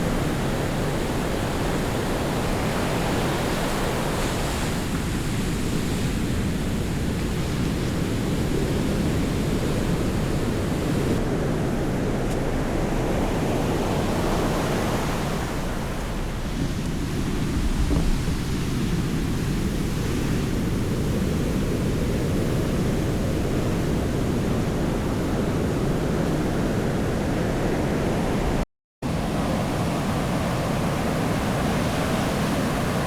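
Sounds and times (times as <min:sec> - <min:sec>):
sea surf washing on beach: 0:00.0 - 0:33.0
wind on microphone: 0:00.0 - 0:33.0.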